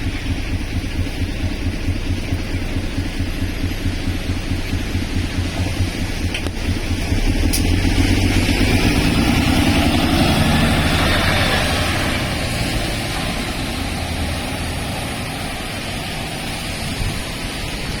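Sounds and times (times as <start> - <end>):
bus diesel engine: 0.0 - 18.0
traffic and tyre noise: 0.0 - 18.0.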